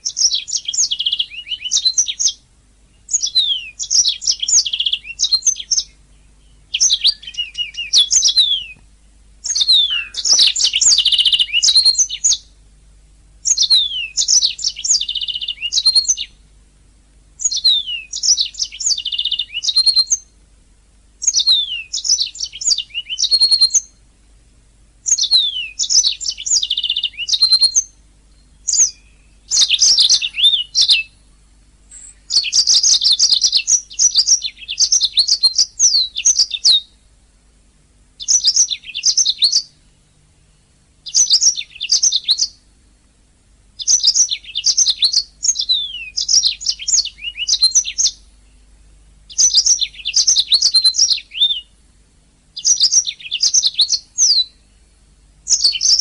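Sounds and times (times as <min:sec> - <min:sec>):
canary singing trills: 0:00.0 - 0:12.6, 0:13.4 - 0:16.6, 0:17.4 - 0:20.5, 0:21.1 - 0:24.1, 0:25.0 - 0:37.2, 0:38.1 - 0:42.9, 0:43.8 - 0:51.8, 0:52.4 - 0:56.0.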